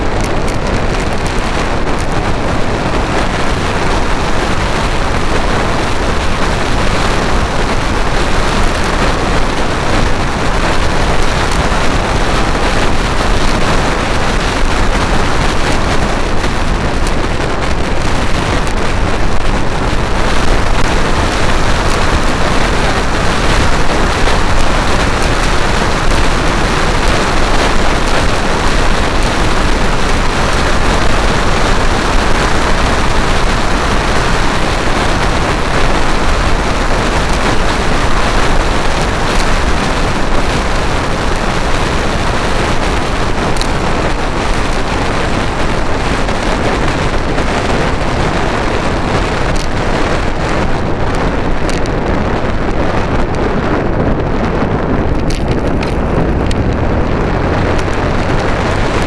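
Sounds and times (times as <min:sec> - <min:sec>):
road noise: 0:00.0 - 0:59.0
wind rush on microphone: 0:00.0 - 0:59.0.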